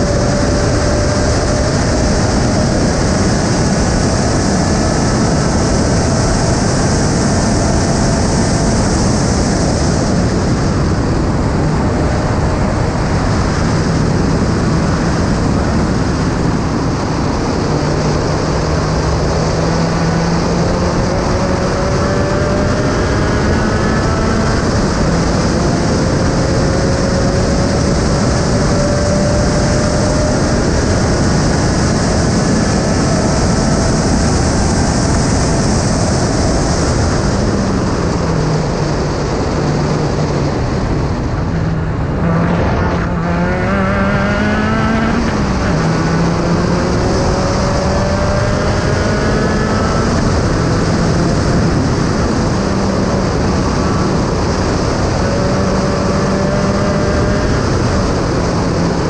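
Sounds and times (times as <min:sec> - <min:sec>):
race car engine: 0:00.0 - 0:59.0
wind rush over microphone: 0:00.0 - 0:59.0.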